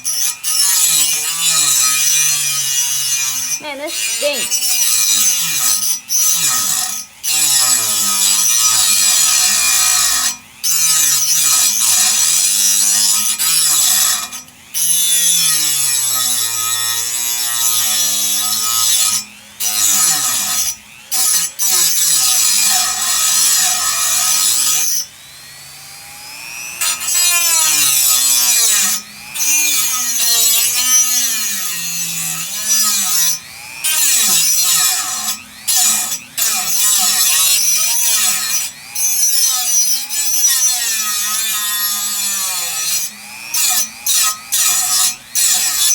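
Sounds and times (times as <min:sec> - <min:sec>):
abrasive wheel cutting metal bar: 0:00.0 - 0:45.9.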